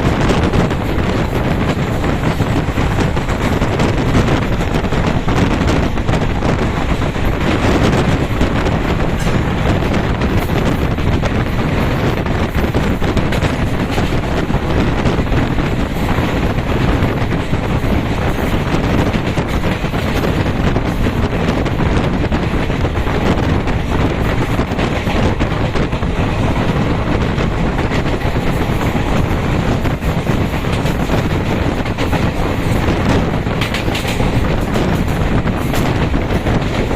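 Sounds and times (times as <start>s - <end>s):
train wheels rumbling on track: 0.0s - 36.9s
wind noise on microphone: 0.0s - 36.9s.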